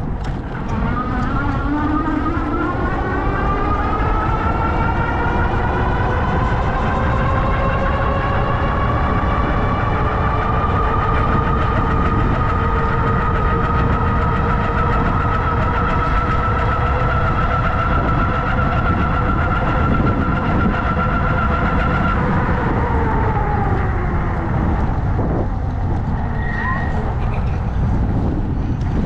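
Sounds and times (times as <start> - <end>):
low riding rumble: 0.0 - 29.0
vehicle motor whining: 0.0 - 29.0.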